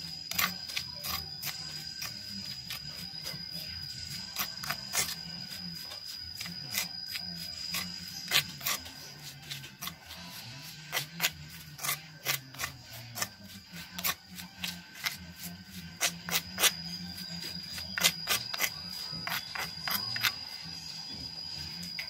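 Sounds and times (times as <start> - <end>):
background music: 0.0 - 22.0
metal spoon scraping stone mortar: 0.0 - 22.0.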